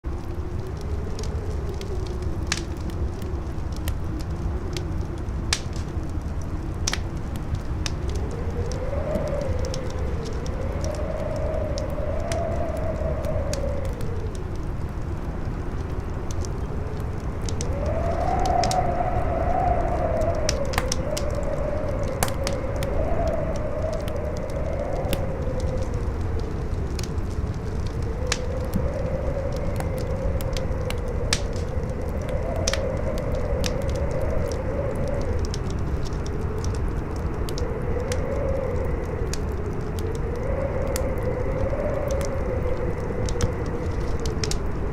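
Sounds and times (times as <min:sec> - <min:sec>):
howling wind: 0:00.0 - 0:44.9
low wind rumble: 0:00.0 - 0:44.9
campfire crackling and popping: 0:00.1 - 0:44.9.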